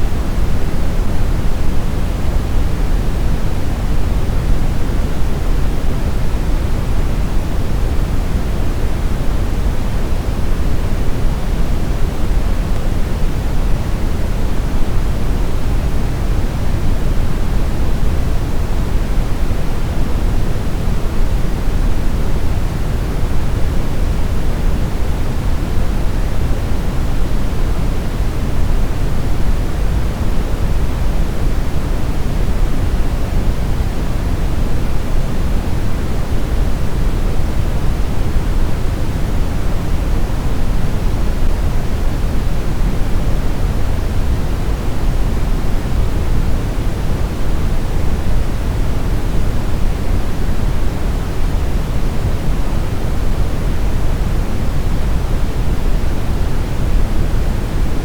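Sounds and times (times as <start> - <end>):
brown noise rumbling hiss: 0.0 - 58.0.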